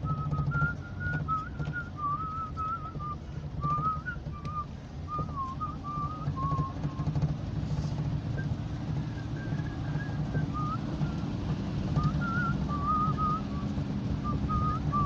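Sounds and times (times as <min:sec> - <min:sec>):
person whistling: 0:00.0 - 0:07.2, 0:08.3 - 0:11.3, 0:11.9 - 0:15.0
car engine rumble: 0:00.0 - 0:15.0
tyres on gravel road: 0:00.0 - 0:15.0.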